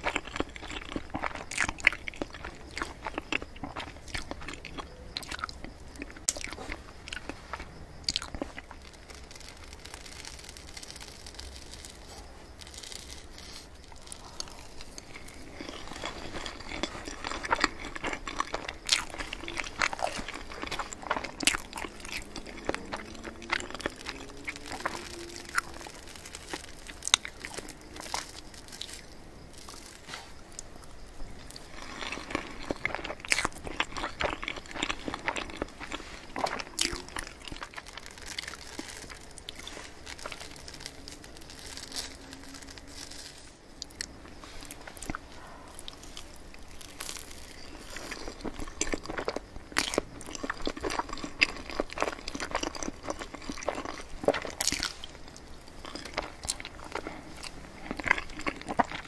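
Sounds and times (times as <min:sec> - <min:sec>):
chewing and mouth sounds: 0:00.0 - 0:59.0.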